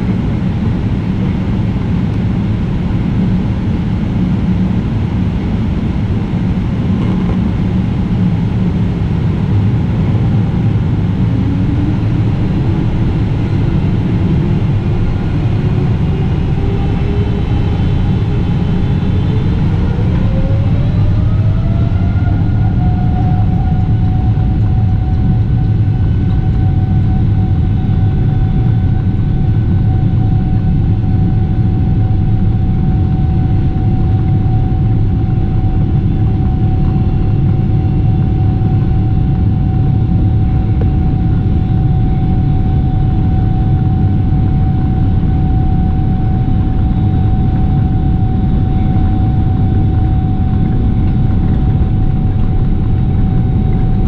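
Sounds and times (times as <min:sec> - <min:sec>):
jet engines idling in cabin: 0:00.0 - 0:54.0.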